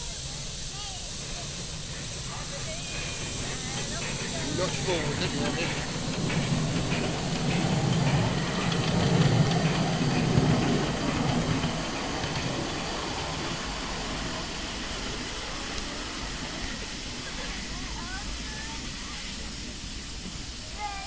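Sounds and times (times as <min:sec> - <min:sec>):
miniature locomotive rumble: 0:00.0 - 0:21.0
steam hissing: 0:00.0 - 0:21.0.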